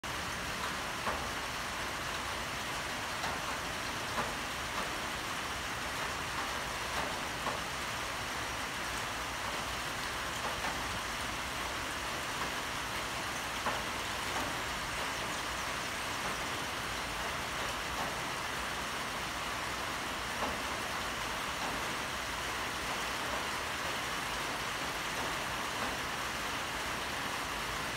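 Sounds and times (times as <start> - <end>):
light rain hissing: 0.1 - 27.9.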